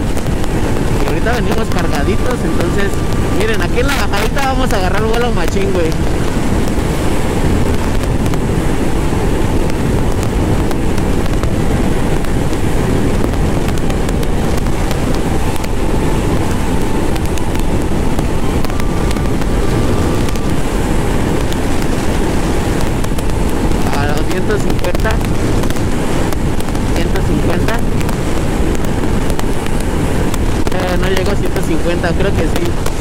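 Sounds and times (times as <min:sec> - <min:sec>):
heavy wind noise: 0:00.0 - 0:33.0.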